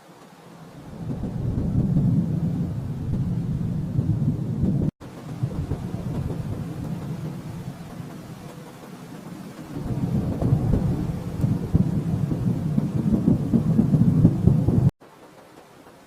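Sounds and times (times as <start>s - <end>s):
rolling thunder: 0.8s - 14.9s.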